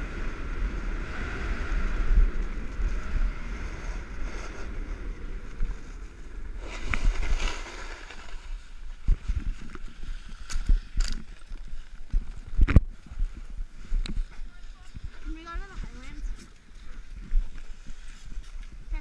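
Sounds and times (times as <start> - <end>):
snowboard sliding over snow: 0.0 - 19.0
wind on microphone: 0.0 - 19.0.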